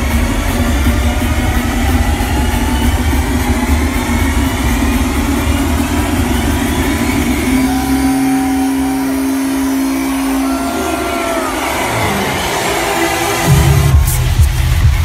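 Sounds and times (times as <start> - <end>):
held synth tone with gliding notes: 0.0 - 14.0
electronic dance music: 0.0 - 15.0.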